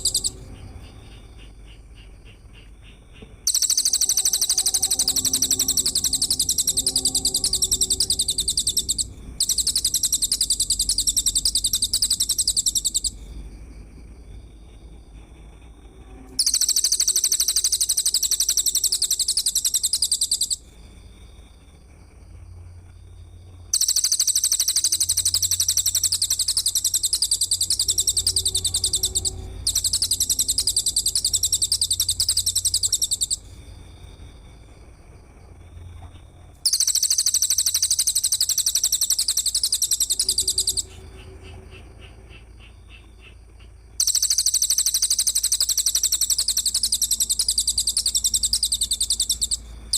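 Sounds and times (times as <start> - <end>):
songbird chattering trill: 0.0 - 13.2, 16.4 - 20.6, 23.8 - 33.4, 36.7 - 49.6
low steady hum: 0.0 - 49.9.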